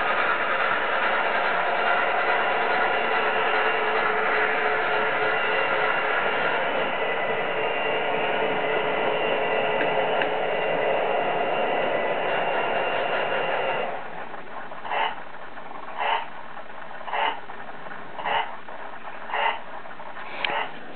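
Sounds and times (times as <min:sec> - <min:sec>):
model train motors whirring: 0:00.0 - 0:20.9
short regular pulses: 0:00.0 - 0:20.9.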